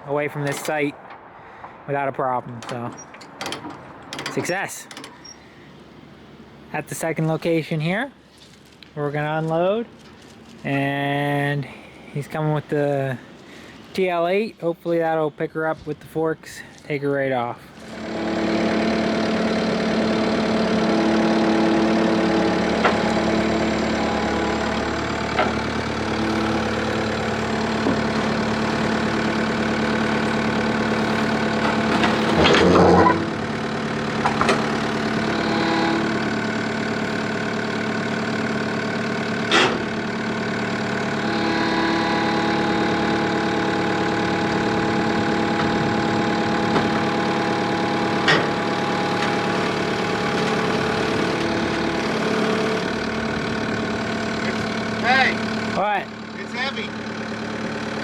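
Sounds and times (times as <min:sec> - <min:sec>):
engine idling: 0:02.3 - 0:15.1, 0:17.6 - 0:58.0.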